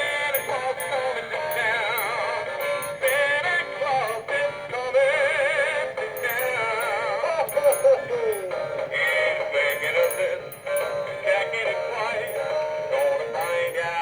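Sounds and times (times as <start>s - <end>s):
synthetic voice singing a tune: 0.0s - 14.0s.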